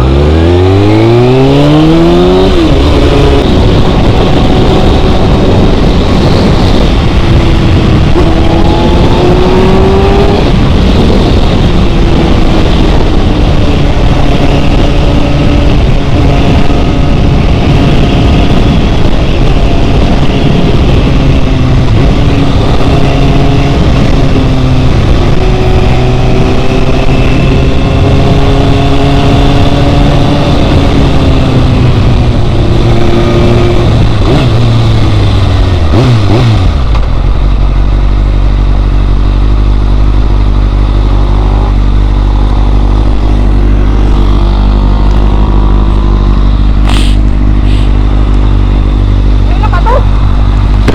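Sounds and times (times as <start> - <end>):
motorcycle engine: 0.0 - 50.9
wind rush on microphone: 0.0 - 50.9.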